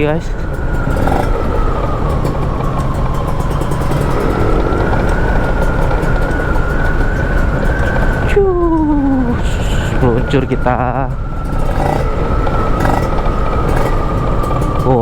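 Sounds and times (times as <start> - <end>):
two-stroke motorcycle engine: 0.0 - 15.0
wind noise on microphone: 0.0 - 15.0.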